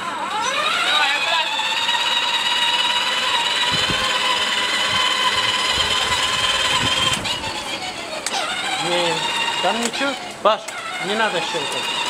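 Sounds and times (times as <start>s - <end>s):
electric motor and gearbox whining: 0.0s - 12.0s.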